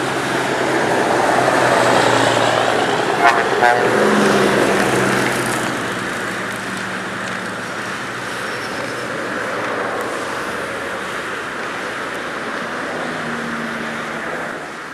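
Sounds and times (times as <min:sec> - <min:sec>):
steady motorway traffic: 0:00.0 - 0:14.9.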